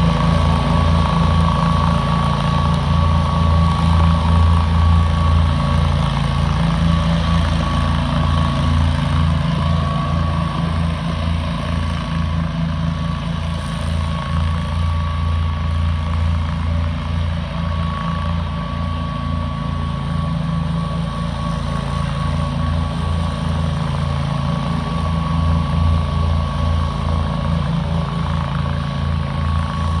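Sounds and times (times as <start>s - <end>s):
mower engine humming: 0.0s - 30.0s.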